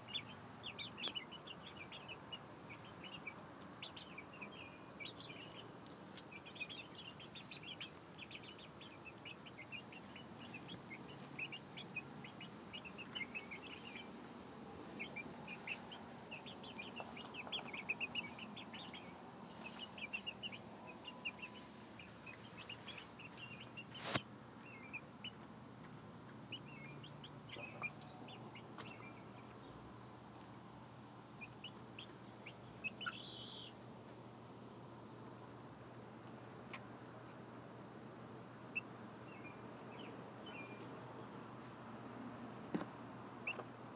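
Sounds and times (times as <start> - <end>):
chicks peeping and cheeping: 0.0 - 30.2, 31.4 - 33.8, 38.7 - 41.5, 43.4 - 43.8.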